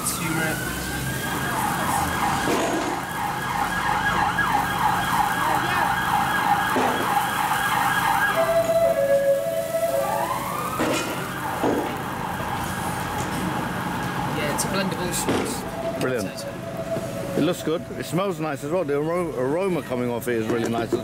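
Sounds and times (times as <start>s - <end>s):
emergency siren wailing and yelping: 0.0s - 18.3s.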